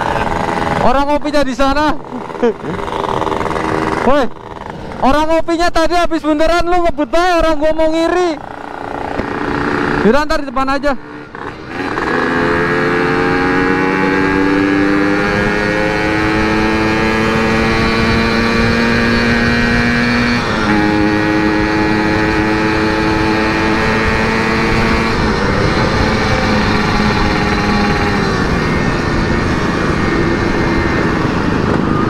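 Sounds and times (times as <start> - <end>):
two-stroke motorcycle engine revving: 0.0 - 5.8, 7.8 - 32.0.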